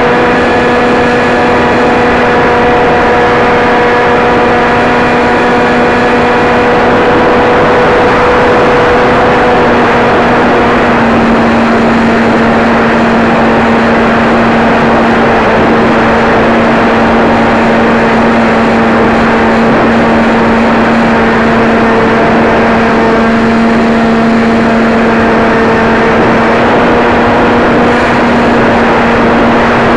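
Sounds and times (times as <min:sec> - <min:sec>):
heavy wind rush: 0:00.0 - 0:29.9
small aircraft engine droning: 0:00.0 - 0:29.9.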